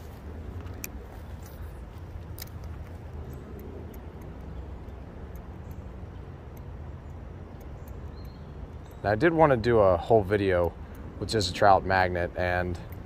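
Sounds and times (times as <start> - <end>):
faint scattered clicks: 0.0 - 13.0.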